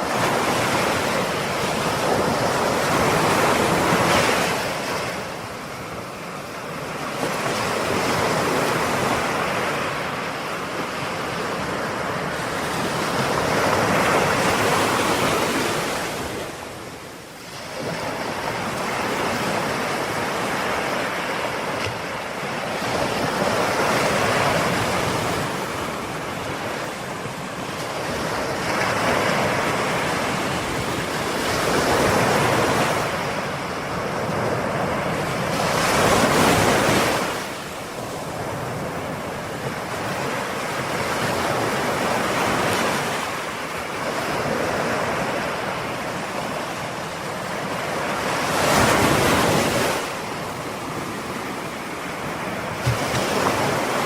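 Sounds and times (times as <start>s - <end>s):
ocean surf waves breaking: 0.0s - 54.0s.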